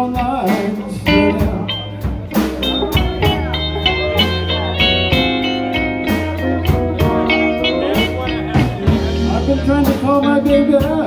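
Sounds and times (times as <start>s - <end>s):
bass guitar: 0.0s - 11.0s
drums keeping a steady beat: 0.0s - 11.0s
electric guitar with bent notes: 0.0s - 11.0s
person singing: 0.0s - 11.0s.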